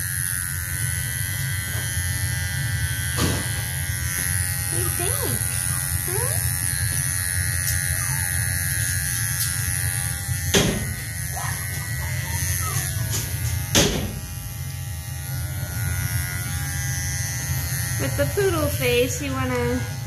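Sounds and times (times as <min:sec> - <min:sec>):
electric clippers buzzing: 0:00.0 - 0:20.0.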